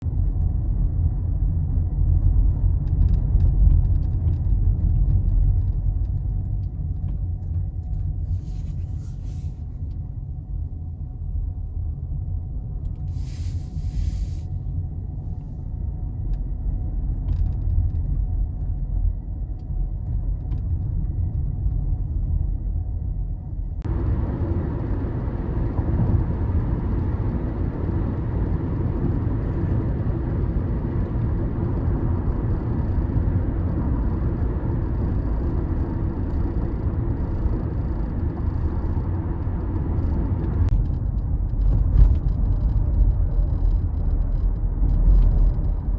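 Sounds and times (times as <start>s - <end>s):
road and tyre rumble: 0.0s - 45.9s.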